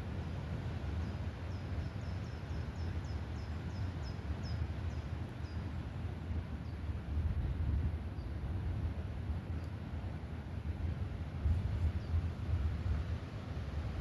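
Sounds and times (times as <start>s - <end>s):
wind rushing through forest: 0.0s - 14.0s.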